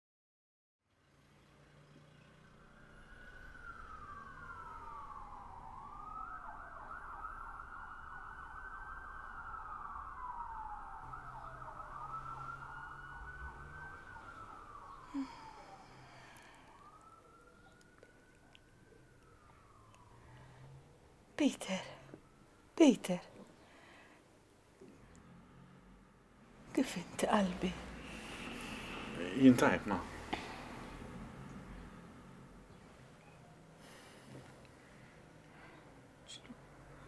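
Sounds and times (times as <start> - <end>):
faint siren wailing: 1.1 - 37.0.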